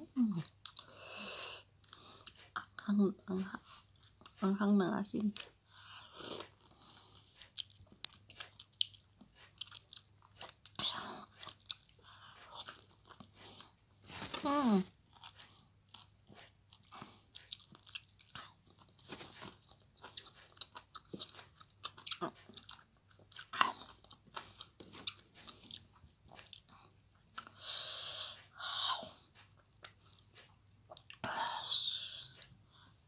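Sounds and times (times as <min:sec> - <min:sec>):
person chewing: 0:00.2 - 0:00.9, 0:01.8 - 0:02.7, 0:03.7 - 0:04.4, 0:05.4 - 0:31.6.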